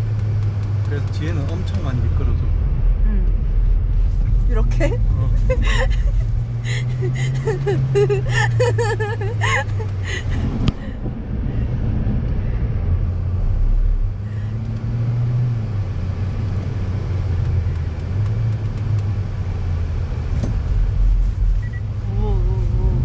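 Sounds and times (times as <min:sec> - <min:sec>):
car engine drone: 0:00.0 - 0:23.0.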